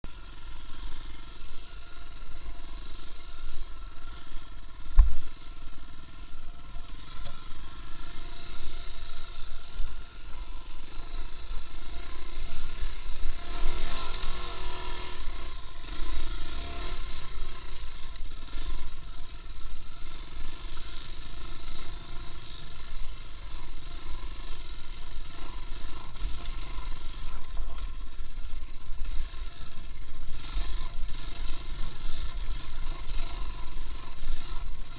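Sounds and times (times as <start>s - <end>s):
vehicle engine drone: 0.0s - 34.9s.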